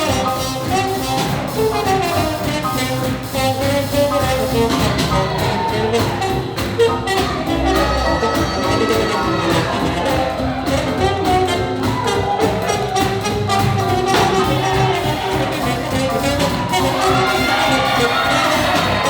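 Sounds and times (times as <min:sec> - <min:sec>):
swing jazz orchestra playing: 0:00.0 - 0:19.0.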